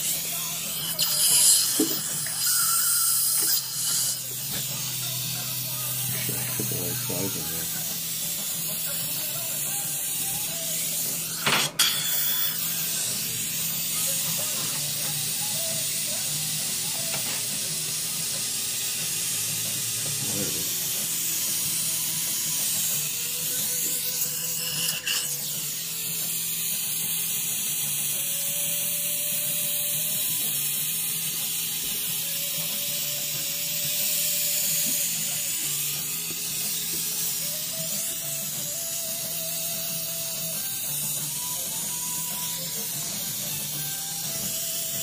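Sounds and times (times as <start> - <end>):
dental suction tube hissing: 0.0 - 45.0.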